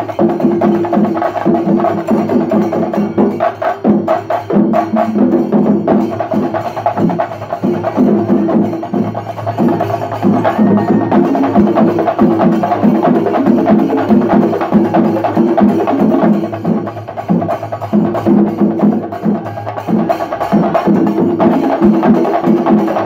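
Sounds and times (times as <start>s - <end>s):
drums beaten in fast rhythm: 0.0s - 23.0s
hand cymbals clashing: 0.0s - 23.0s.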